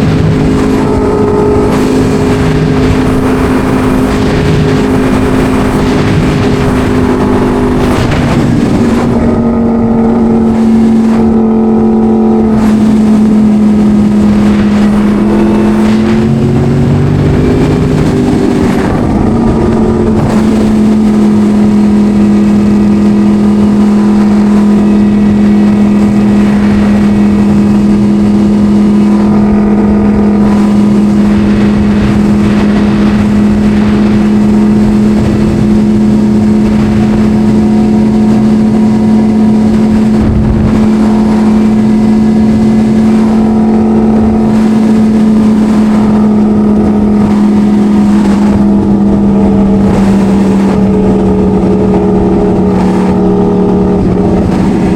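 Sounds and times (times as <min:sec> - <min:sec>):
motorcycle engine running steadily: 0:00.0 - 0:54.9.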